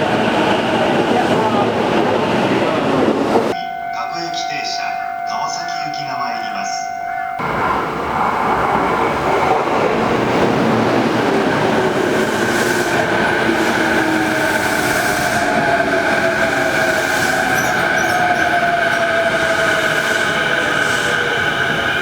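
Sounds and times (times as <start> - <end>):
train rail and wheel noise: 0.0 - 22.0.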